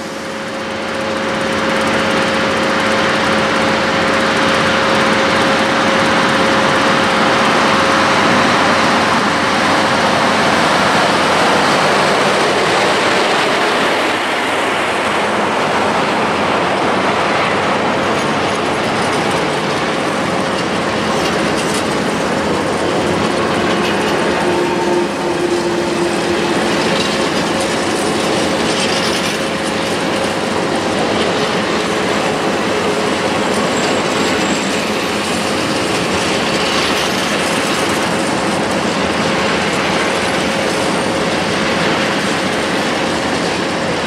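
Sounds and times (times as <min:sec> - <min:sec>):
diesel locomotive engine drone: 0:00.0 - 0:44.0
wagon wheels rumbling and clattering: 0:00.0 - 0:44.0.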